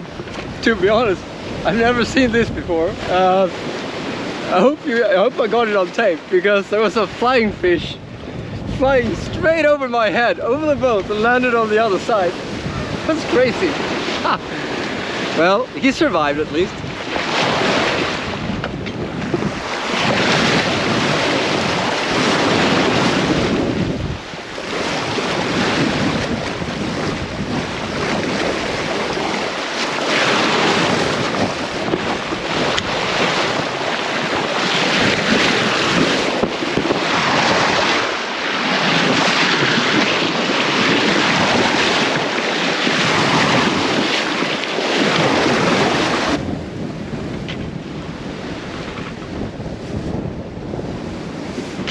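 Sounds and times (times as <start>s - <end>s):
water rushing along a hull: 0.0s - 51.9s
wind buffeting microphone: 0.0s - 51.9s.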